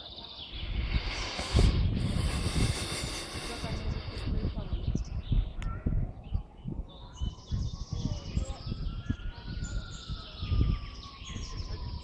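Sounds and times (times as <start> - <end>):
small birds chirping: 0.0 - 12.0
wind buffeting microphone: 0.0 - 12.0.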